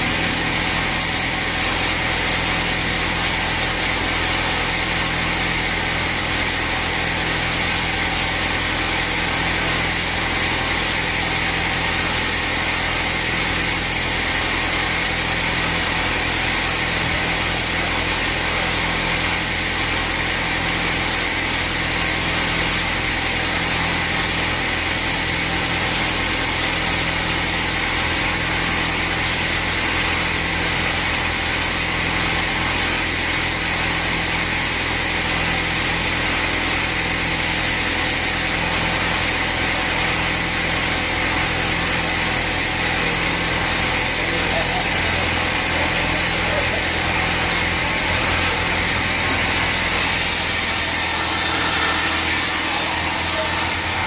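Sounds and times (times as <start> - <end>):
band saw running: 0.0 - 54.0.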